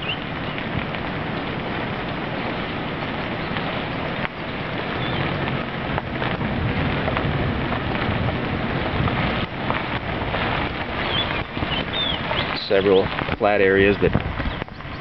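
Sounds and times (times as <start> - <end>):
tyres on dirt road: 0.0 - 15.0
vehicle engine running: 0.0 - 15.0.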